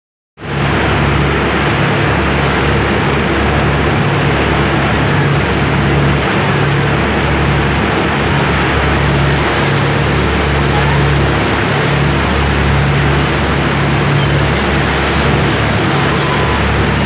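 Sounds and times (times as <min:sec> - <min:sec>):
boat engine hum: 0:00.4 - 0:17.0
rush of wind and water: 0:00.4 - 0:17.0.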